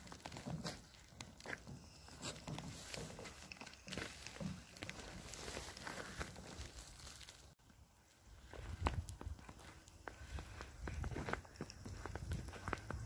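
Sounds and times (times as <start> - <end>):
footsteps on snowy grass: 0.0 - 7.6, 8.3 - 13.0.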